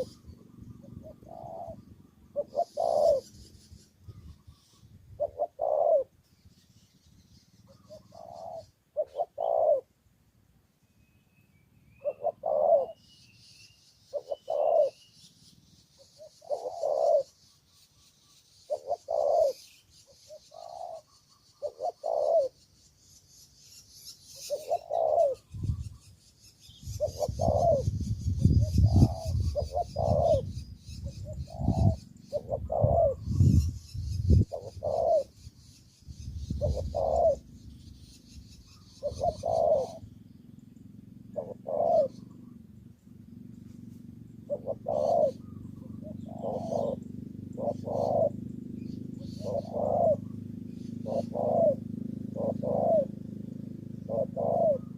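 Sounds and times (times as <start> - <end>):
dove cooing: 0.0 - 6.3, 7.5 - 10.0, 12.0 - 13.0, 14.0 - 17.6, 18.3 - 22.7, 24.3 - 26.1, 26.7 - 54.9.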